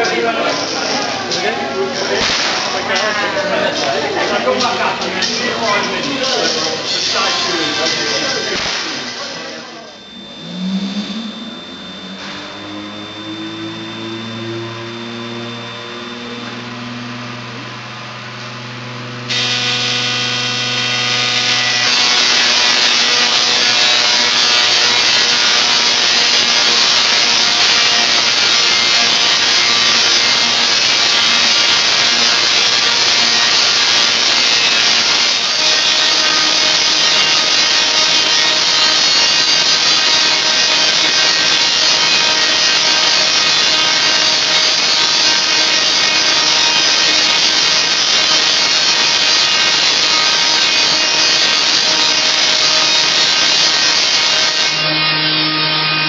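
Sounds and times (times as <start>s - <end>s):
tesla coil sparks buzzing: 0.0s - 56.0s.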